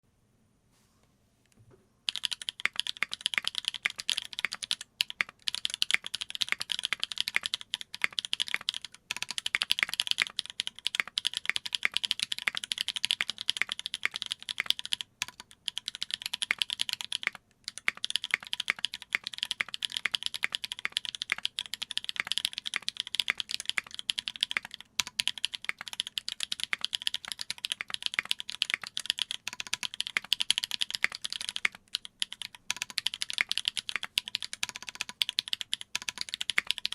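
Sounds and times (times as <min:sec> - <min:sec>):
fast typing on mechanical keyboard: 0:02.1 - 0:36.9.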